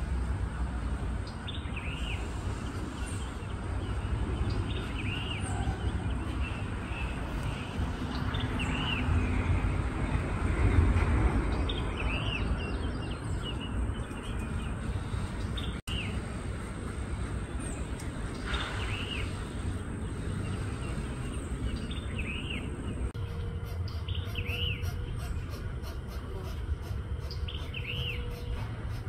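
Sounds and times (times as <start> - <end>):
low outdoor rumble: 0.0 - 29.0
small birds chirping: 1.2 - 9.5, 11.5 - 29.0.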